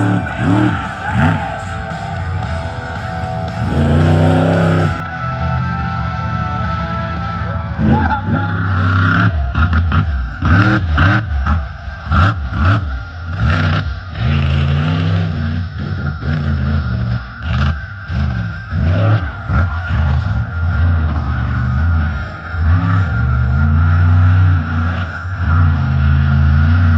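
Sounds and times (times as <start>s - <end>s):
truck engine revving hard: 0.0s - 5.4s, 6.1s - 26.9s.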